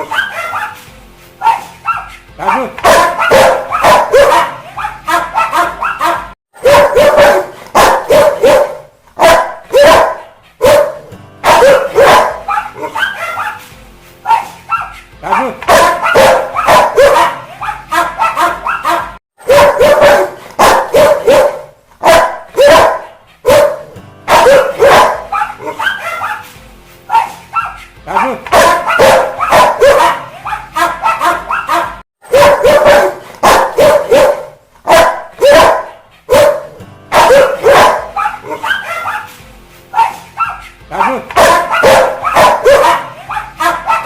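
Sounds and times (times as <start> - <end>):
dog barking angrily: 0.0 - 0.8, 1.4 - 13.6, 14.3 - 26.4, 27.1 - 39.3, 40.0 - 44.0.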